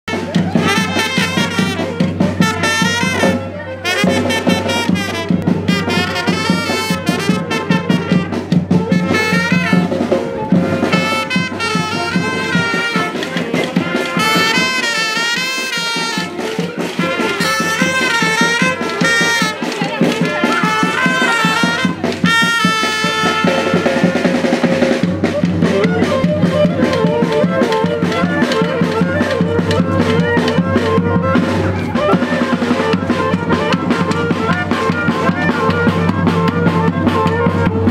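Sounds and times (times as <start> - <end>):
bass drum: 0.1 - 37.9
snare drum: 0.1 - 37.9
trumpets and saxophone melody: 0.1 - 37.9.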